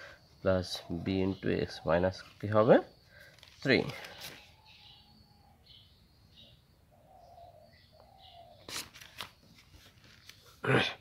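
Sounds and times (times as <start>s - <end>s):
birds cooing: 0.0s - 8.9s
birds chirping: 0.0s - 11.0s.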